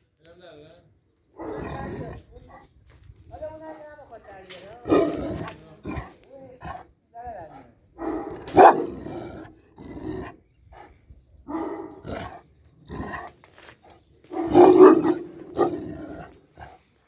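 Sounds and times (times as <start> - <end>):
dogs barking: 1.3 - 2.7, 3.6 - 13.4, 14.2 - 16.8.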